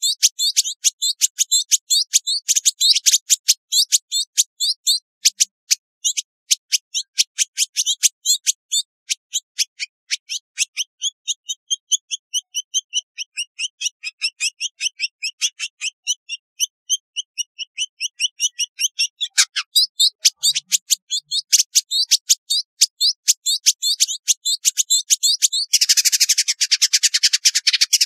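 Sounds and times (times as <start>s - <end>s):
bird high-pitched chirps: 0.0s - 28.0s.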